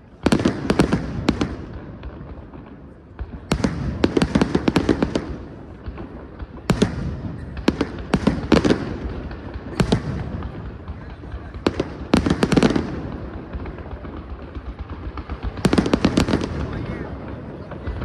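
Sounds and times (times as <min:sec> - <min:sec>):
fireworks crackling bangs: 0:00.0 - 0:18.0.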